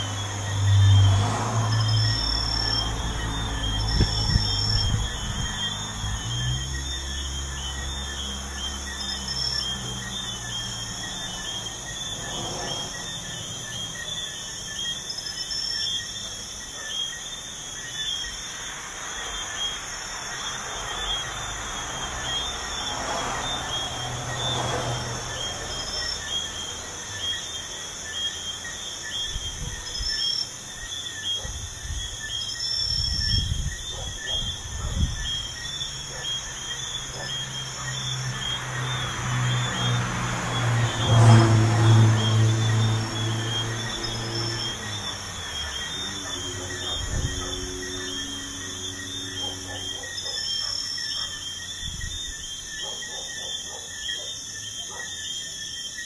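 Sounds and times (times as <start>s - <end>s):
vehicle passing: 0.0s - 14.8s, 18.6s - 29.8s, 33.0s - 55.0s
crickets chirping: 0.0s - 56.0s
highway traffic rumble: 0.0s - 56.0s.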